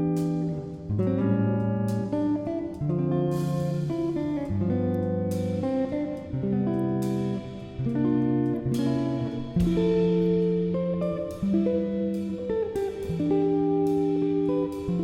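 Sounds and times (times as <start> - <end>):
guitar strumming chords: 0.0 - 15.0.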